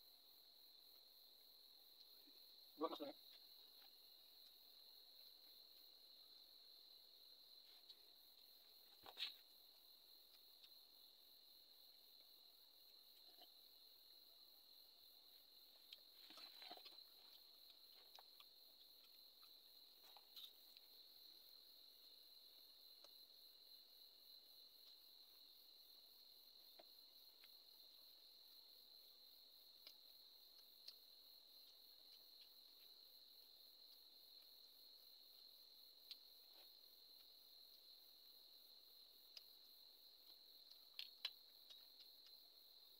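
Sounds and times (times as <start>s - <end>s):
cricket trill: 0.0s - 42.9s.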